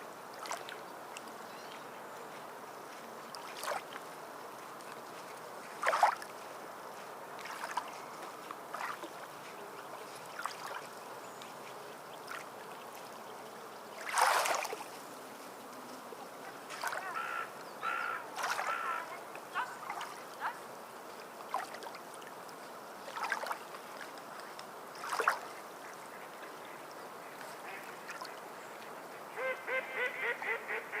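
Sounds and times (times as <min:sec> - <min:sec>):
sea water lapping and splashing: 0:00.0 - 0:01.8, 0:02.9 - 0:15.6, 0:16.2 - 0:29.4.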